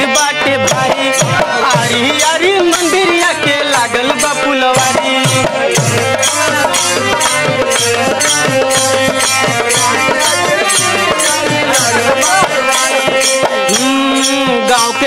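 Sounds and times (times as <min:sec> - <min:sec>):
hand drum beats: 0:00.0 - 0:15.0
harmonium melody: 0:00.0 - 0:15.0
small hand cymbals jingling: 0:00.8 - 0:15.0.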